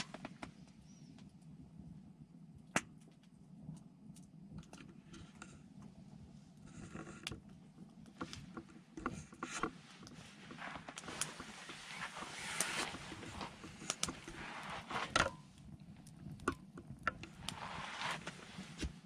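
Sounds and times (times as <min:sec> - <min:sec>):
firewood crackling and popping: 0:02.4 - 0:19.0.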